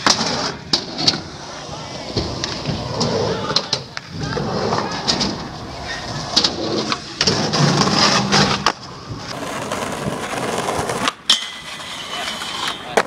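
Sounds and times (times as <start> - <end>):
skateboard clacking on ground: 0.0 - 13.0
skateboard wheels rolling on concrete: 0.0 - 13.0.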